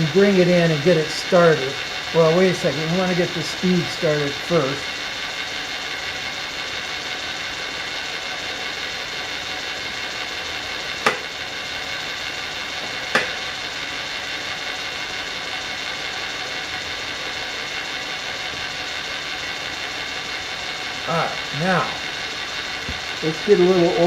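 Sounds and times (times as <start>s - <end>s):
machine tool whirring: 0.0s - 24.0s.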